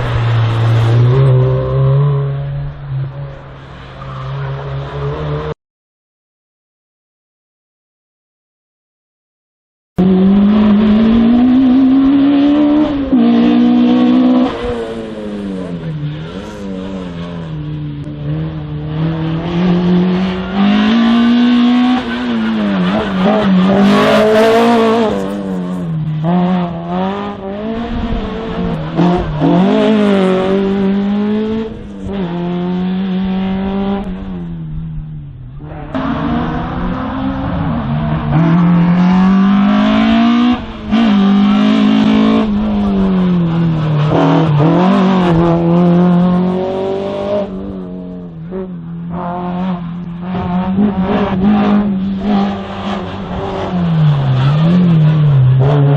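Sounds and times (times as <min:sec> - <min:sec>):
race car engine revving: 0:10.0 - 0:35.0, 0:35.6 - 0:55.9.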